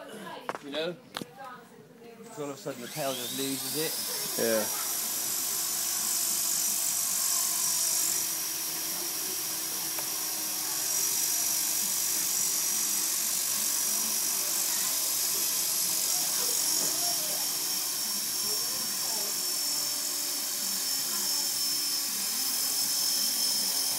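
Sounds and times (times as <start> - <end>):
model helicopter rotor whining: 2.6 - 23.9.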